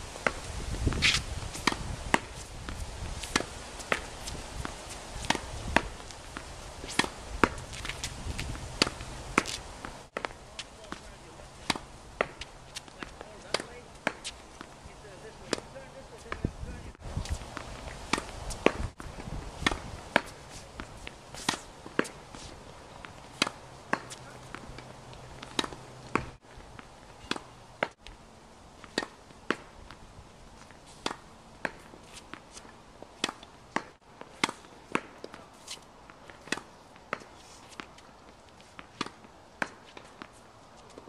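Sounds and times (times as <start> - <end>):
tennis ball bouncing on hard court: 0.2 - 16.5, 17.2 - 28.1, 30.6 - 38.1, 38.7 - 41.0
tennis ball hit by rackets: 0.2 - 28.1, 28.8 - 30.0, 30.6 - 41.0.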